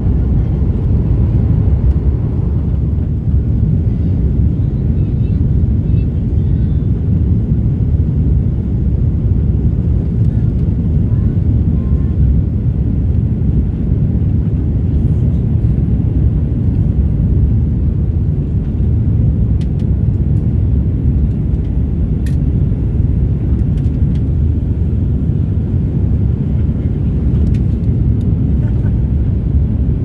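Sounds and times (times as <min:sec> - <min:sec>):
jet taking off rumble: 0:00.0 - 0:30.0.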